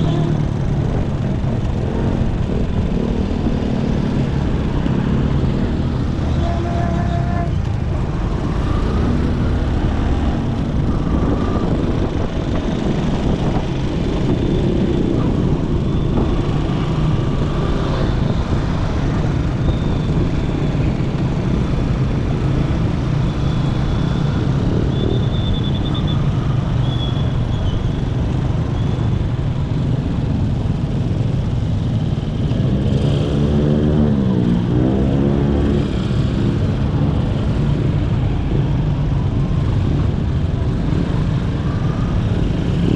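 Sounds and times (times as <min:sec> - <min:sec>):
road and traffic noise: 0:00.0 - 0:42.9.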